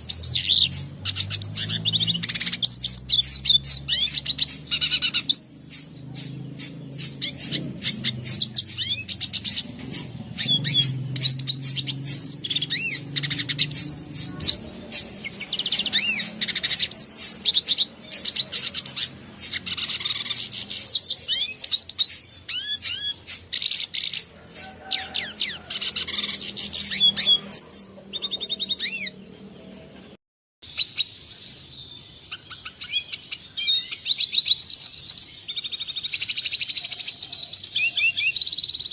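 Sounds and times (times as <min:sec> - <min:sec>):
bird twittering and whistling: 0:00.0 - 0:29.2, 0:30.6 - 0:38.9.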